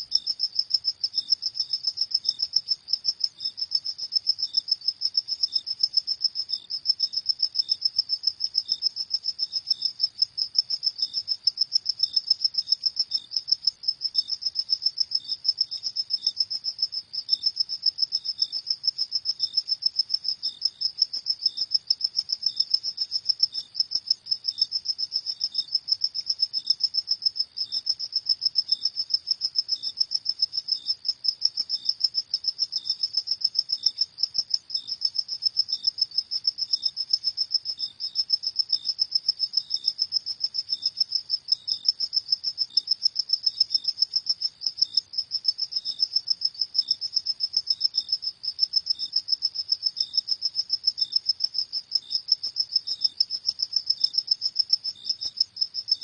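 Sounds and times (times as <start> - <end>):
crickets chirping: 0.0 - 56.0
fainter lower cricket chirping: 0.0 - 56.0.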